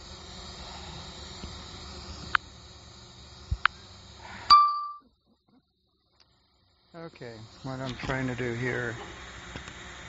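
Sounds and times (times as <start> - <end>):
steady hiss: 0.0 - 5.0, 6.0 - 10.0.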